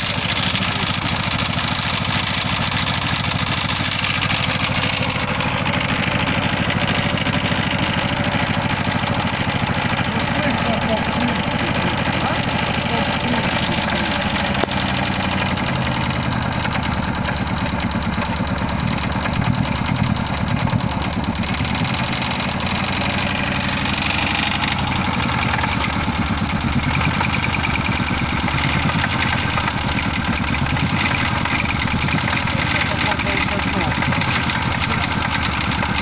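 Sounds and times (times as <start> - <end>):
car engine idling with ticking: 0.0 - 36.0.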